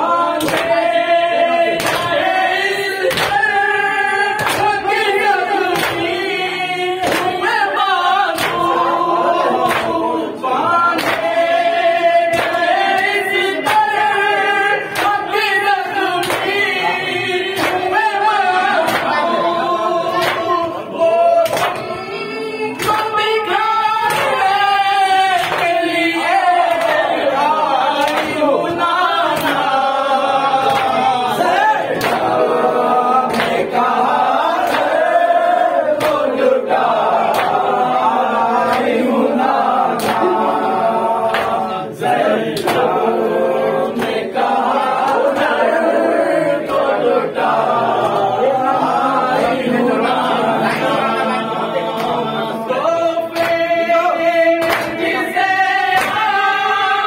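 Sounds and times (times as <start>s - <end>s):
men chanting in unison: 0.0s - 57.0s
rhythmic chest-beating slaps: 0.0s - 57.0s.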